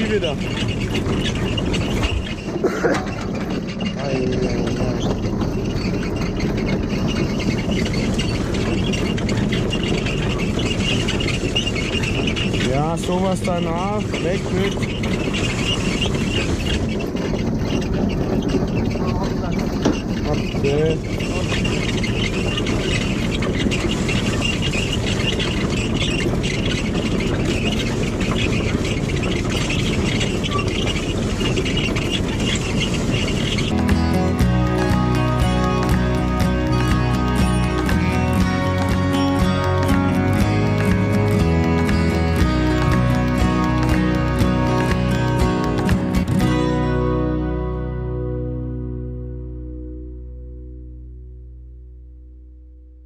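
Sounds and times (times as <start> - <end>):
harvester chains clattering: 0.0 - 47.1
tractor diesel engine running: 0.0 - 53.0.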